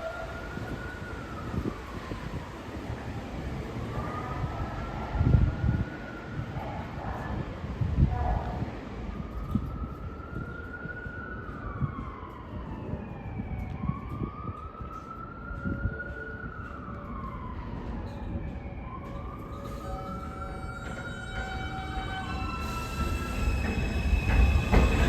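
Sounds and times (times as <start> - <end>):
emergency siren wailing: 0.0 - 7.4, 8.0 - 25.0
low city rumble: 0.0 - 25.0.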